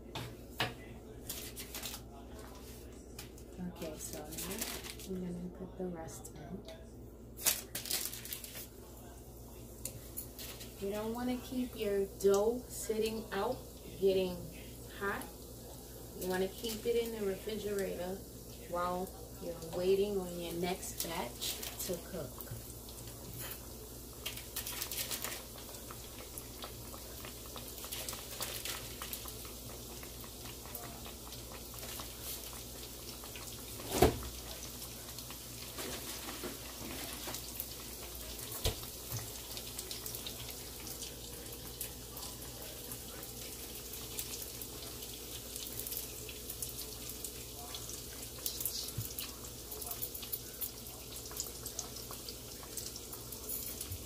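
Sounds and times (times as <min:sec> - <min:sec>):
oil sizzling and crackling: 0:01.2 - 0:05.1, 0:07.3 - 0:54.0.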